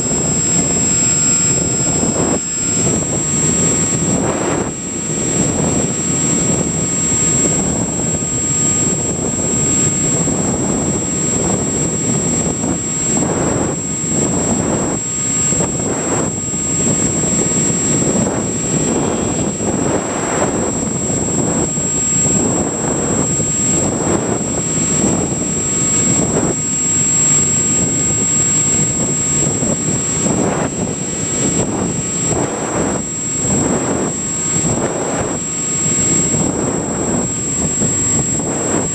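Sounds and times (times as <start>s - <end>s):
electric motor whine: 0.0s - 38.9s
rushing air noise: 0.0s - 38.9s.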